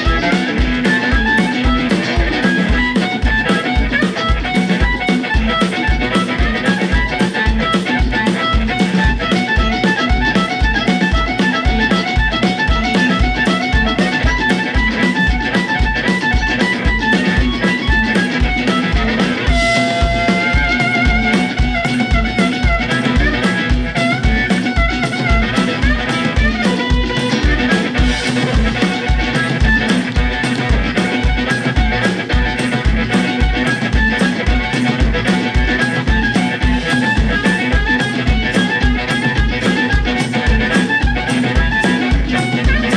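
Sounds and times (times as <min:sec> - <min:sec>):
drum kit with kick-drum beat: 0:00.0 - 0:42.9
electric guitar: 0:00.0 - 0:42.9
wailing amplified harmonica: 0:00.0 - 0:42.9.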